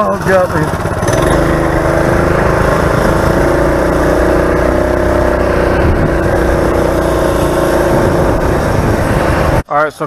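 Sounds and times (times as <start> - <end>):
small engine running at high speed: 0.0 - 9.6.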